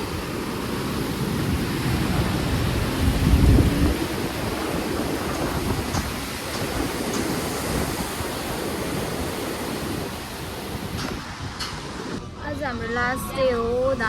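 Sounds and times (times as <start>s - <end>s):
sea surf washing onto beach: 0.0s - 12.2s
wind buffeting microphone: 0.0s - 14.0s.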